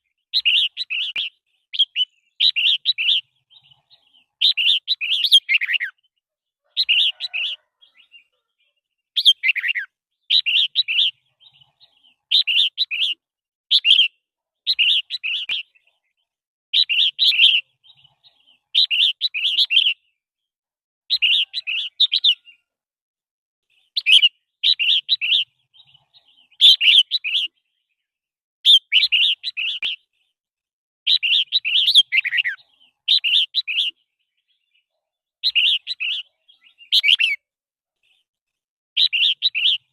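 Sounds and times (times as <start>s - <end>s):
bird singing warbled phrases: 0.0s - 20.5s, 21.1s - 22.7s, 23.6s - 39.9s.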